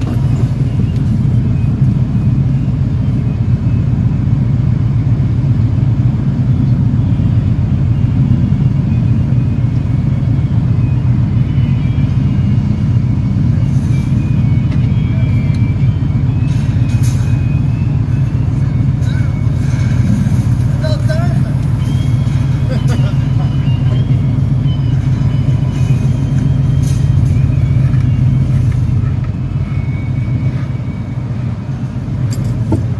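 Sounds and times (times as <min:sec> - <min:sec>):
motorcycle engine rumbling: 0:00.0 - 0:32.9.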